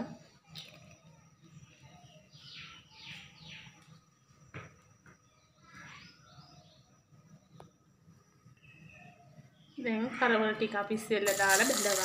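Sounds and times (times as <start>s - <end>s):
faint bird chirps: 0.1s - 10.2s.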